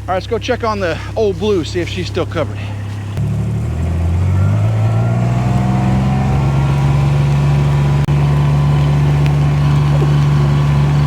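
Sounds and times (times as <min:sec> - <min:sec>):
vehicle engine pulling away: 0:00.0 - 0:11.0.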